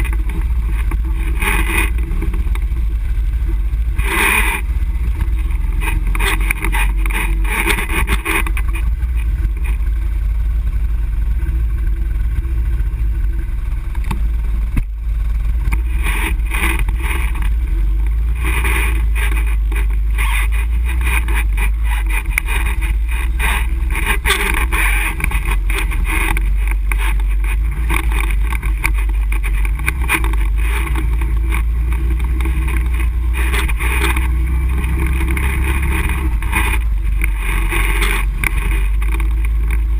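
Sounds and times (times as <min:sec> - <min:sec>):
atv engine running: 0:00.0 - 0:39.9
rough rumbling noise: 0:00.0 - 0:39.9.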